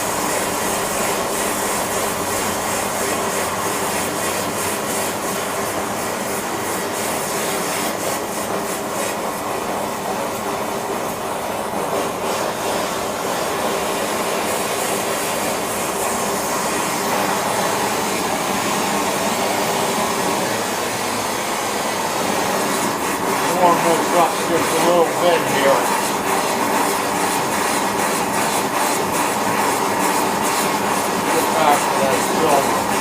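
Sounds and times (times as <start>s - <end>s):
gas torch flame rushing: 0.0s - 33.0s.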